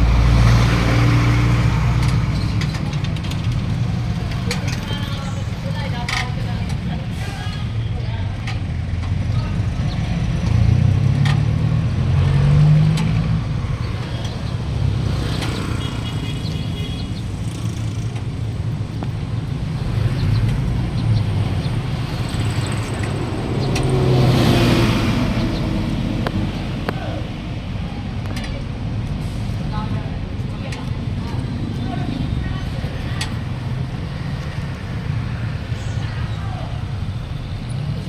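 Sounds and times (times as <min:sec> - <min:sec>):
low traffic rumble: 0:00.0 - 0:38.0
vehicles passing: 0:00.0 - 0:38.0.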